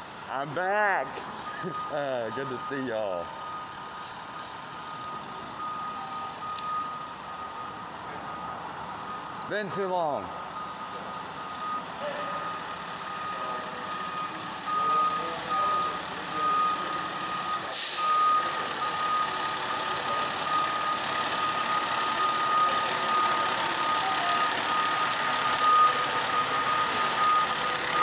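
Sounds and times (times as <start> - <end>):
fire engine running: 0.0 - 28.0
reversing alarm beeping: 1.1 - 28.0.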